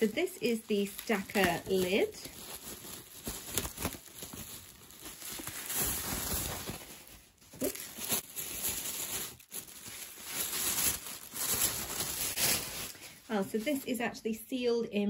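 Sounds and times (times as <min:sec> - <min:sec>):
packaging crinkling and rustling: 0:00.0 - 0:13.9.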